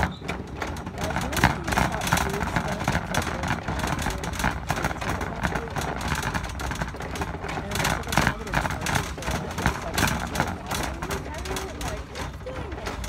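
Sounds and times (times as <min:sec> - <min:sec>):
cart wheels rumbling: 0:00.0 - 0:13.0
wire frame rattling: 0:00.0 - 0:13.0.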